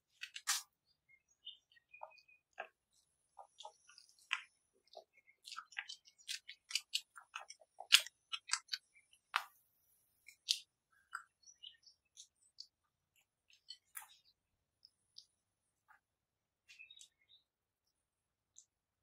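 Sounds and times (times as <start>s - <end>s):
spatula stirring thick batter: 0.0s - 19.0s.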